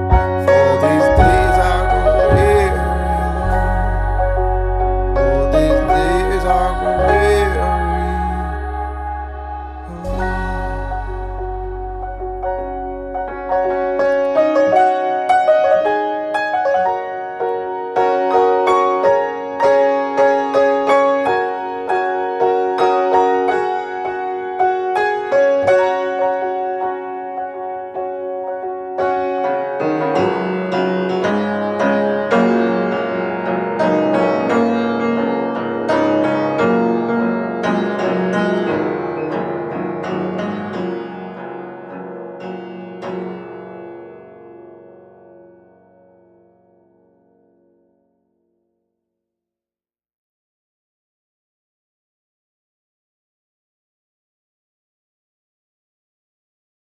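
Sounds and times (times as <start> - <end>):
piano playing: 0.0 - 47.9.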